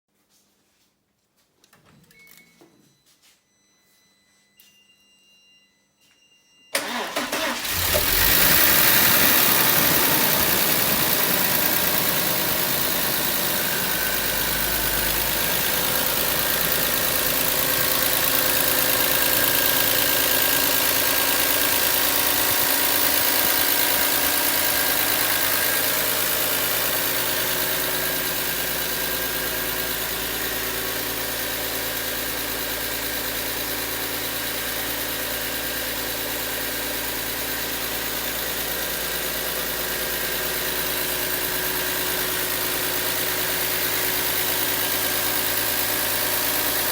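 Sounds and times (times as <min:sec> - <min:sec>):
engine cranking and idling: 0:06.8 - 0:46.9.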